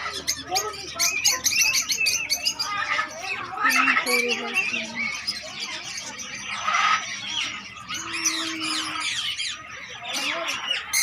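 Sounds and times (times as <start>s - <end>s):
birds chirping and squawking: 0.0s - 11.0s.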